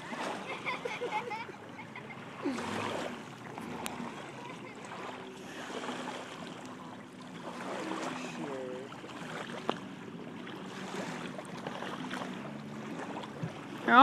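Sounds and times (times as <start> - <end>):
low engine hum: 0.0 - 14.0
water noise: 0.0 - 14.0
wind: 0.0 - 14.0.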